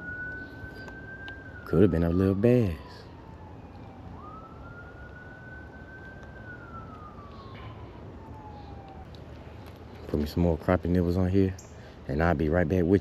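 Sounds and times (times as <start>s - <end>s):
faint siren wailing: 0.0s - 13.0s.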